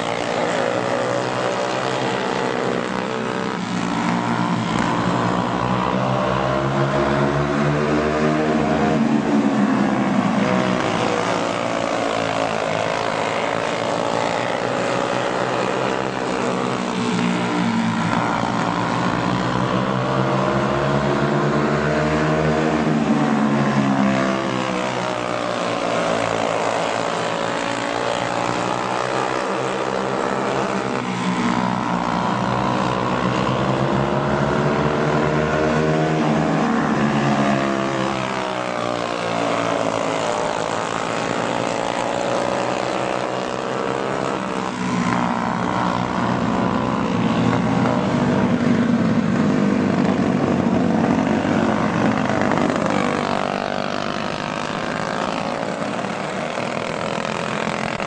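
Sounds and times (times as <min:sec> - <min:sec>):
go-kart engines racing: 0:00.0 - 0:58.0.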